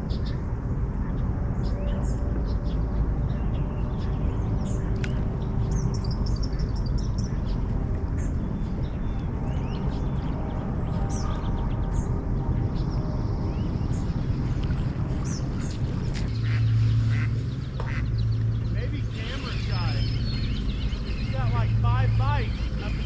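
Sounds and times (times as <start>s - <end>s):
birds chirping: 0.0s - 23.0s
low background rumble: 0.0s - 23.0s.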